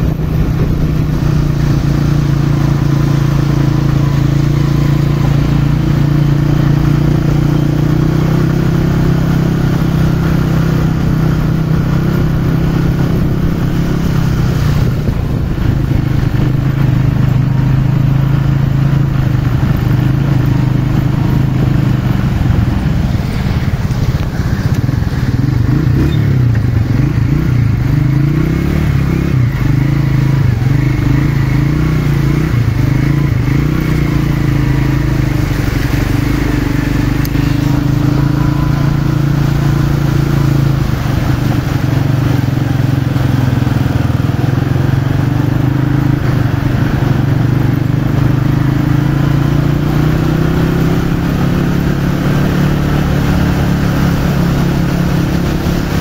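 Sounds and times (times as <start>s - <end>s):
small motorcycle engine running: 0.0s - 56.0s
tyres washing through floodwater: 0.0s - 56.0s.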